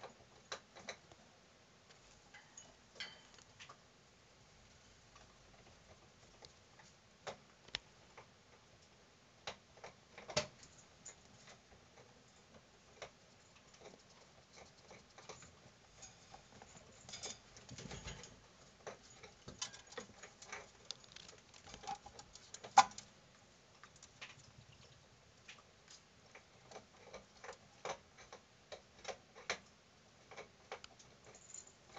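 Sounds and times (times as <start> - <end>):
rats clicking and tapping: 0.0 - 1.2, 5.2 - 31.9.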